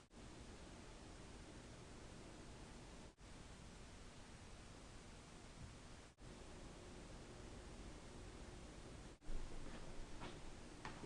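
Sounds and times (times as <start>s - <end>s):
recording hiss: 0.0s - 11.0s.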